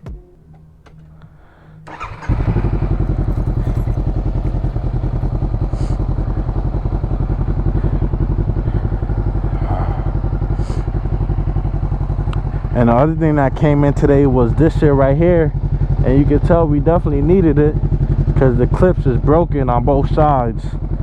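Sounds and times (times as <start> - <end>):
motorcycle engine idling: 0.1 - 21.0.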